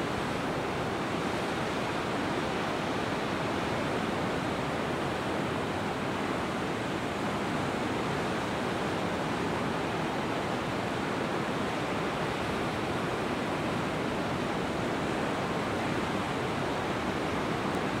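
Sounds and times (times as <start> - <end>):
ocean surf on rocky shore: 0.0 - 18.0.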